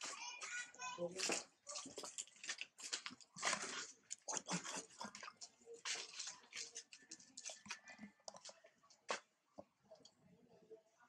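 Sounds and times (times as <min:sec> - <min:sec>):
water splashing in a jar: 0:00.0 - 0:10.2.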